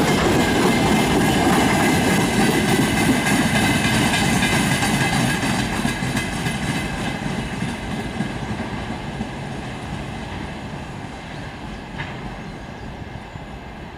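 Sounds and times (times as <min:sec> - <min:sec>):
freight train wheels rumbling: 0:00.0 - 0:13.9.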